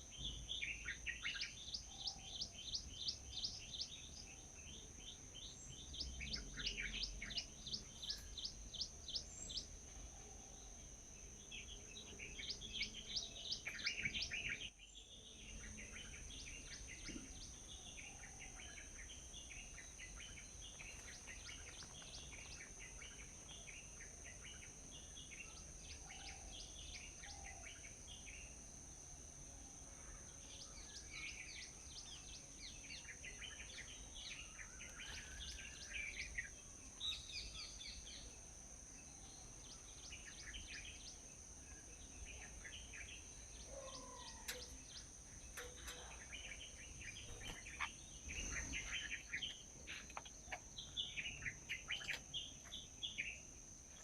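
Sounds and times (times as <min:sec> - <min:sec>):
constant high-pitched tone: 0:00.0 - 0:54.0
small birds chirping: 0:00.0 - 0:54.0.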